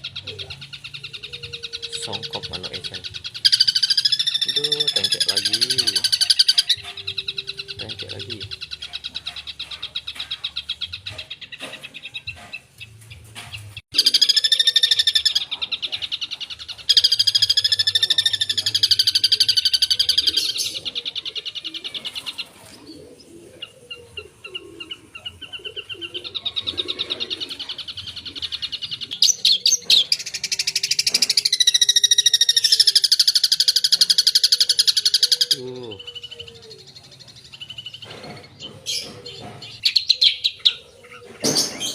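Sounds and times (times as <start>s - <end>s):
bird singing buzzy rattling song: 0.0s - 41.9s.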